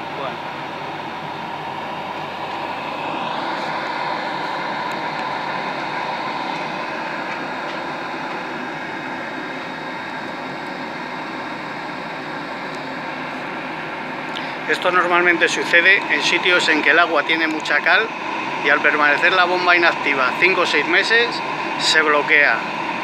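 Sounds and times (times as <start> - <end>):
gas boiler running: 0.0 - 23.0.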